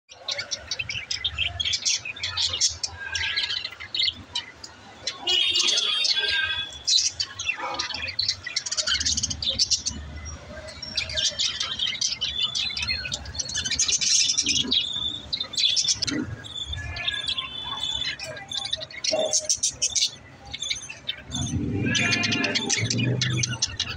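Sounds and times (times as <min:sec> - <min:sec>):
budgerigars chirping and whistling: 0:00.1 - 0:23.9.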